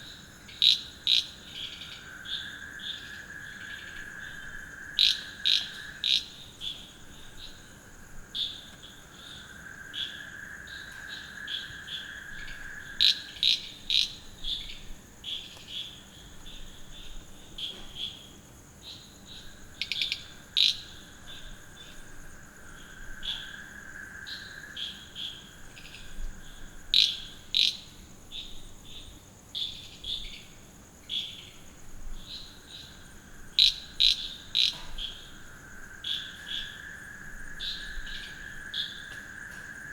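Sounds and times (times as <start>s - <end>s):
frogs calling in pulses: 0.0s - 39.9s
high-pitched cricket trill: 0.0s - 39.9s
low insect chorus: 0.0s - 39.9s.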